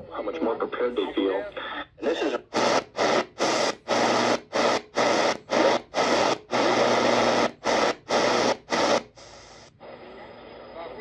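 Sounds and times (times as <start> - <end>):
radio static bursts: 0.0 - 11.0.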